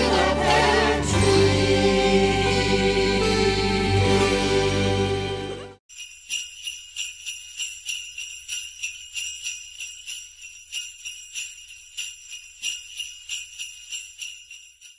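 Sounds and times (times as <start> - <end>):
jingle bells shaken: 0.0 - 4.8, 5.9 - 14.9.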